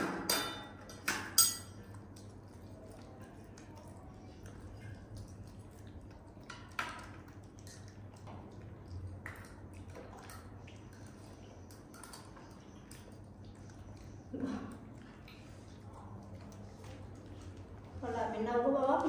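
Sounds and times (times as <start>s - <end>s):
monkey eating with wet smacking: 0.0s - 19.0s.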